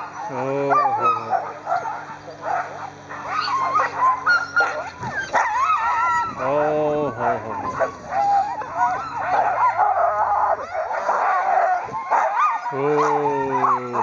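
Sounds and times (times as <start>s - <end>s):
dog drawn-out low call: 0.0s - 14.0s
sled dogs yelping and howling: 0.0s - 14.0s.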